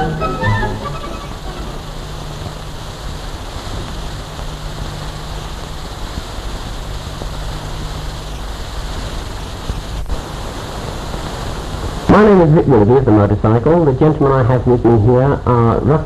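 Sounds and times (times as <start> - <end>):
faint low hum: 0.0 - 16.0
old film soundtrack hiss: 0.0 - 16.0.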